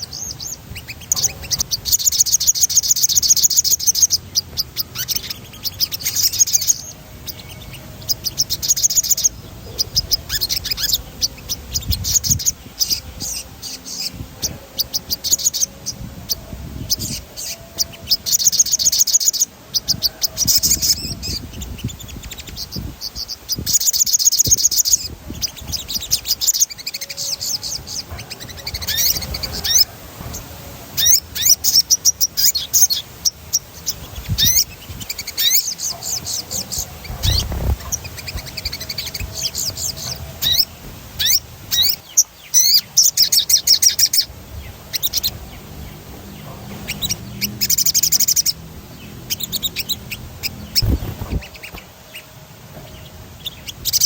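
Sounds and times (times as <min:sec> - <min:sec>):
bird singing high trills: 0:00.0 - 0:54.0.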